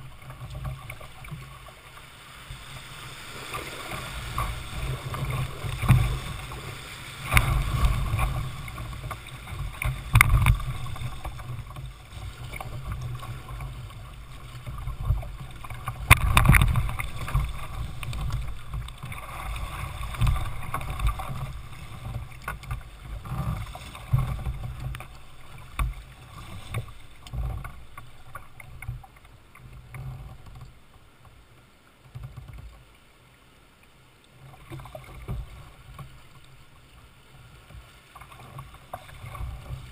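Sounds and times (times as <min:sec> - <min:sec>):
whitewater rushing against a hull: 0:00.0 - 0:33.4, 0:34.3 - 0:39.9.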